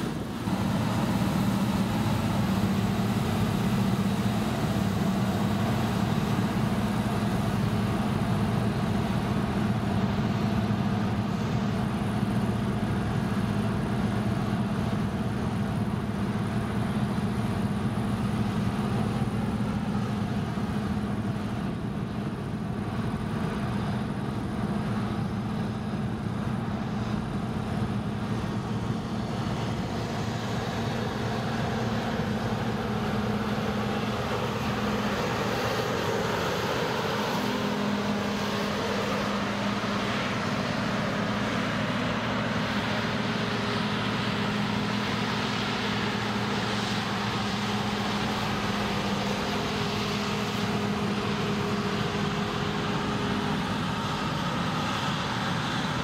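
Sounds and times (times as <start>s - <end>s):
combine harvester engine hum: 0.0s - 56.0s.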